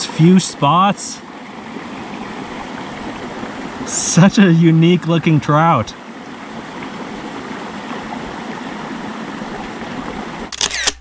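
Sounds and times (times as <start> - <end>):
creek water rushing: 0.0 - 10.6.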